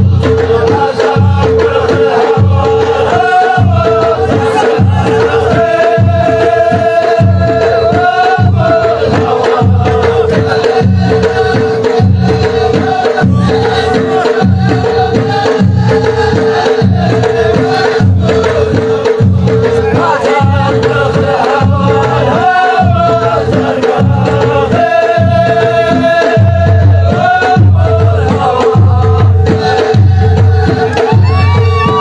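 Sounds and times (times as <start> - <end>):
frame drums beating: 0.0 - 32.0
men chanting in chorus: 0.0 - 32.0.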